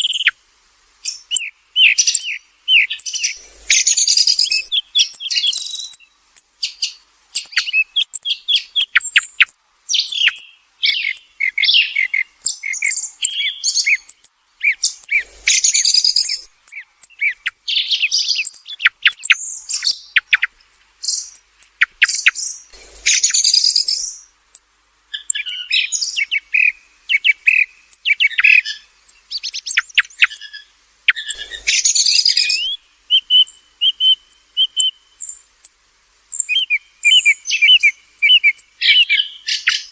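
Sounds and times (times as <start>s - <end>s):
song thrush singing: 0.0s - 0.4s, 1.0s - 39.9s.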